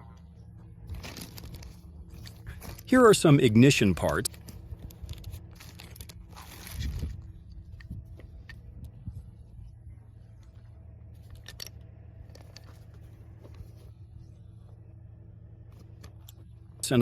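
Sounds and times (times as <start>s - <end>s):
low steady hum: 0.0s - 17.0s
rustle of parts: 0.8s - 14.8s, 15.6s - 17.0s.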